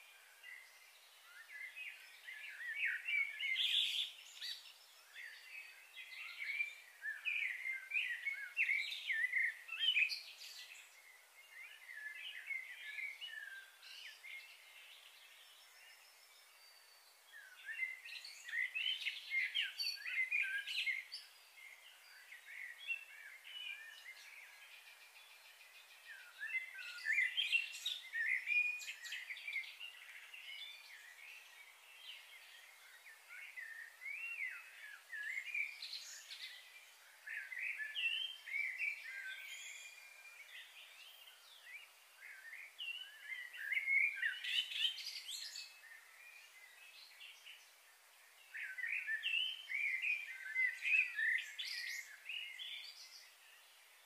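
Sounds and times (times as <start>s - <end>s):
birds chirping and singing: 0.1s - 54.0s.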